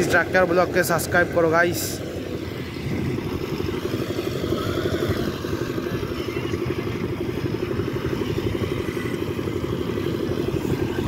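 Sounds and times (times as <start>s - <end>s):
machine engine running: 0.0s - 11.0s.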